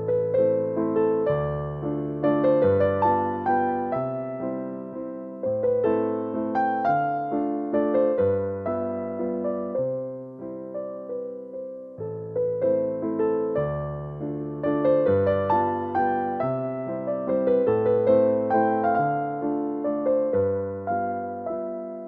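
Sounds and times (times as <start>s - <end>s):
electric piano melody: 0.0s - 22.0s.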